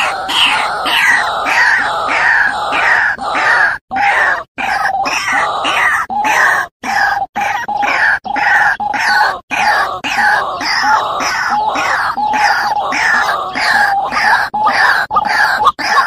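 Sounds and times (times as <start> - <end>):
waterhen harsh calls: 0.0 - 16.0.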